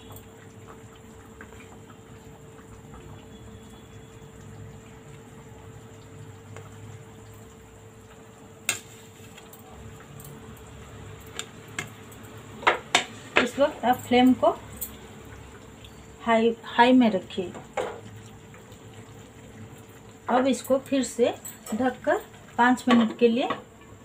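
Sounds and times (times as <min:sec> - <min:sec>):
broth simmering: 0:00.0 - 0:24.0.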